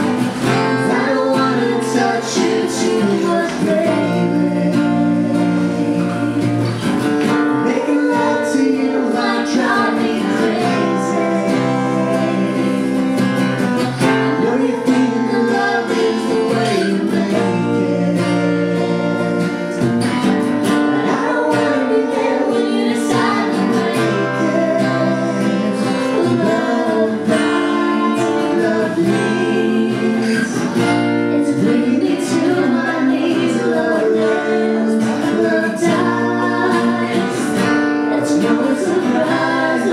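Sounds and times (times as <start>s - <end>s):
acoustic guitar: 0.0s - 39.9s
man and woman singing: 0.0s - 39.9s.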